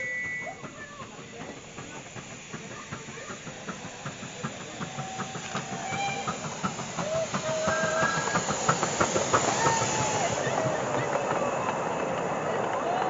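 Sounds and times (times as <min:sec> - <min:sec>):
miniature steam locomotive chuffing: 0:00.0 - 0:13.0
rail clicks: 0:00.0 - 0:13.0
steam hissing: 0:00.0 - 0:13.0.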